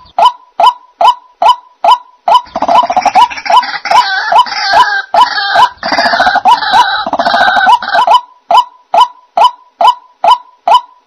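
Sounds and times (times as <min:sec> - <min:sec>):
waterhen croaking calls: 0:00.0 - 0:11.0.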